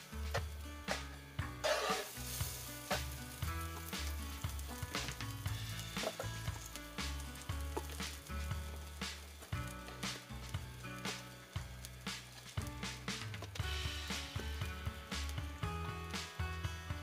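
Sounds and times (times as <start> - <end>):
background music with steady beat: 0.0 - 17.0
batter sizzling on a griddle: 0.0 - 17.0.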